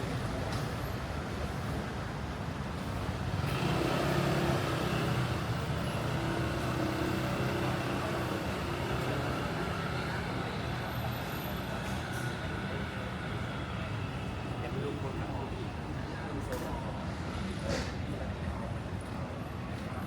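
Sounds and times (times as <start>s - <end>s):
city street noise: 0.0s - 20.0s.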